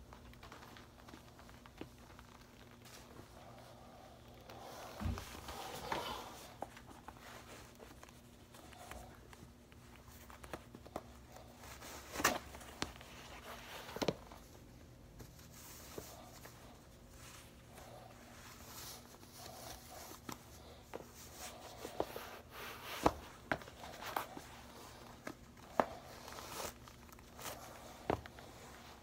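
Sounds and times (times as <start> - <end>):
sock fabric rustling: 0.0 - 29.0.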